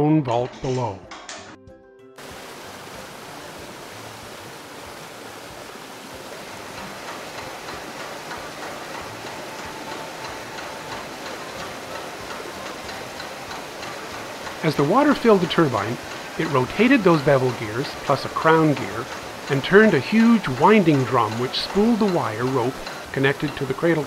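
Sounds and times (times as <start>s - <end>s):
rushing water: 2.2s - 24.0s.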